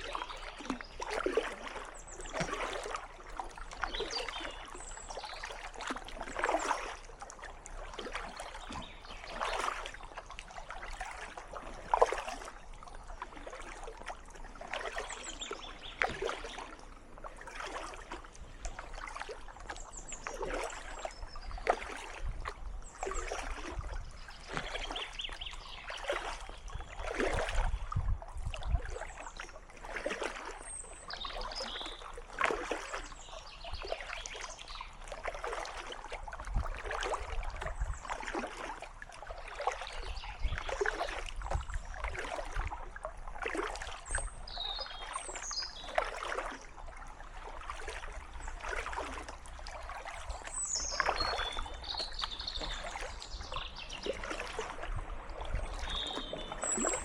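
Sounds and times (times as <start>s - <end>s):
paddle splashing in water: 0.0s - 57.0s
water trickling off paddle: 0.0s - 57.0s.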